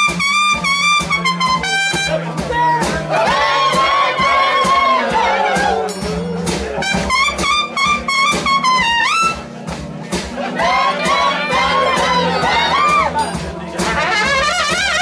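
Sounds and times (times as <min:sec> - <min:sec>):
brass horns: 0:00.0 - 0:02.4, 0:03.0 - 0:09.7, 0:10.4 - 0:15.0
live blues band playing: 0:00.0 - 0:15.0.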